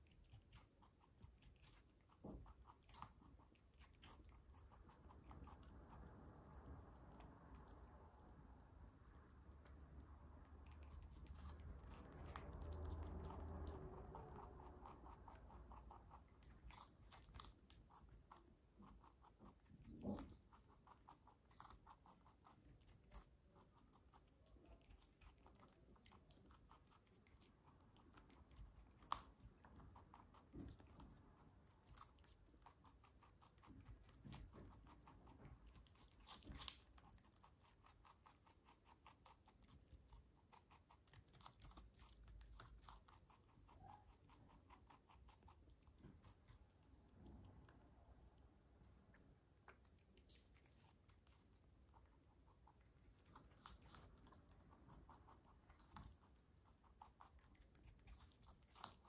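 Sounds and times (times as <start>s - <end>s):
rabbit chewing crunchy food: 0.0s - 59.0s.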